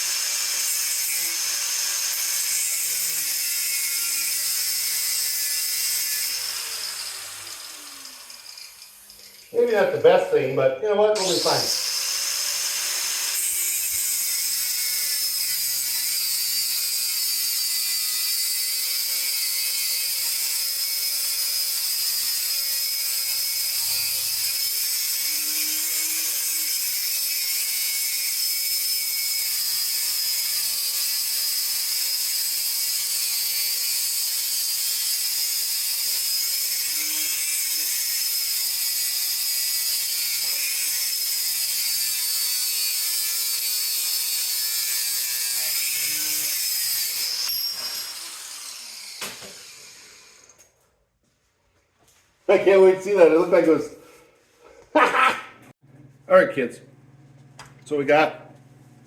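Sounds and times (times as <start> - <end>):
power saw cutting steel: 0.0 - 10.4, 11.0 - 50.8.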